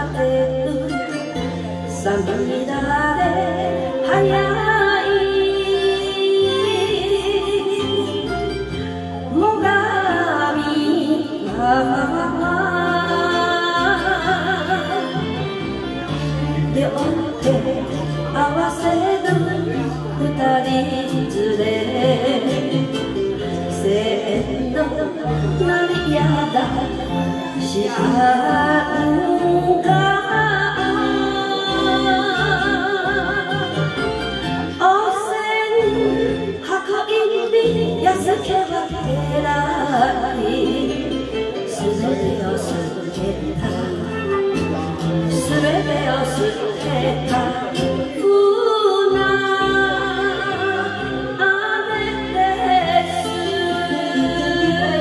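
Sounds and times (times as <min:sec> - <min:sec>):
karaoke backing track: 0:00.0 - 0:55.0
woman singing into a microphone: 0:00.0 - 0:55.0.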